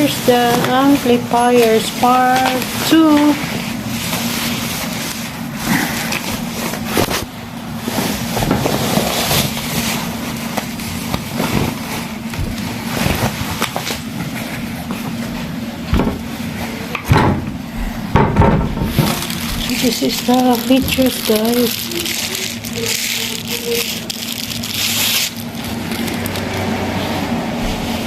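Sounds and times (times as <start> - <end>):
steady background hum: 0.0 - 28.0
packaging rustling and knocking: 0.3 - 27.0.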